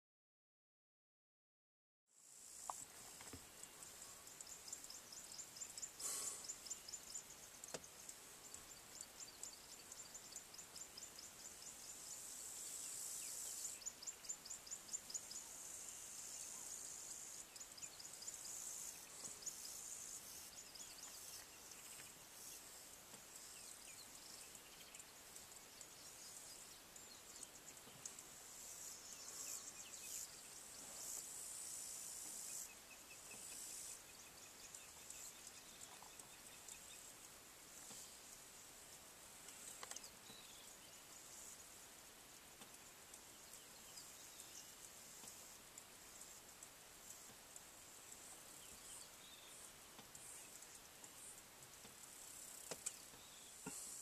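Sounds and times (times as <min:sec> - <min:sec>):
insects chirping: 0:02.2 - 0:54.0.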